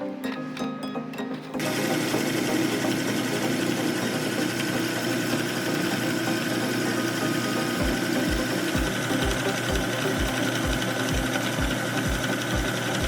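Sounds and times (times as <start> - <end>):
music: 0.0 - 13.0
meat grinder motor running: 1.6 - 13.0.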